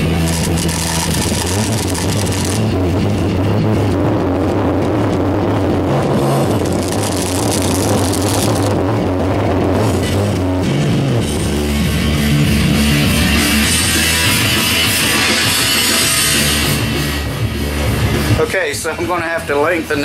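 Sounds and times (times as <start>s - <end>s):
rock music over loudspeaker: 0.0s - 20.0s.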